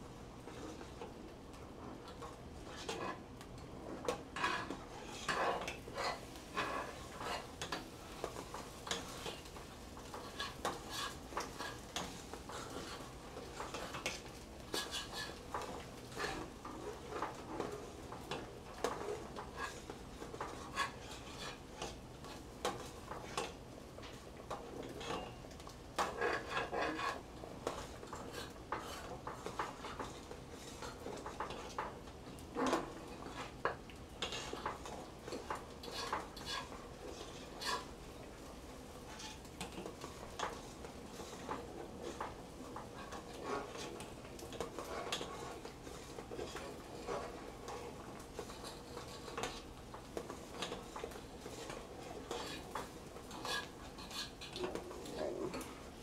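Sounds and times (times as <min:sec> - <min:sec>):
utensil scraping a skillet: 0:00.4 - 0:56.0
spoon stirring in metal pot: 0:03.9 - 0:55.9.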